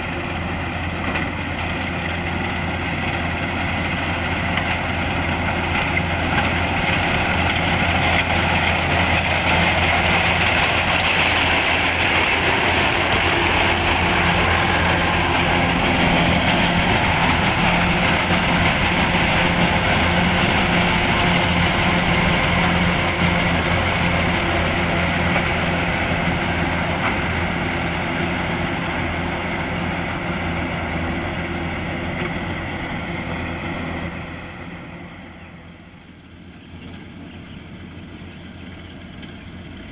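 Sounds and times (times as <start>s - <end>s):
combine harvester diesel engine running: 0.0s - 39.9s.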